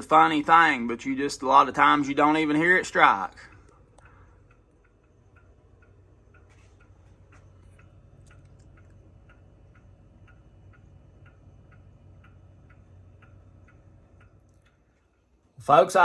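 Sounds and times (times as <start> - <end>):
low steady hum: 0.0 - 16.0
pendulum clock ticking: 0.0 - 16.0.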